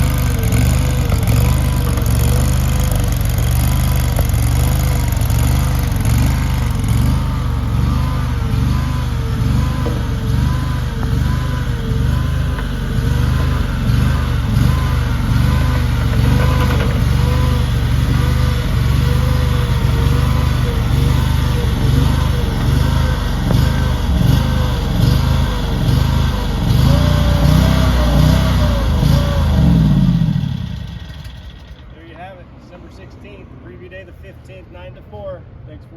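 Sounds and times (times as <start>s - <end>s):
loader engine running: 0.0s - 33.1s.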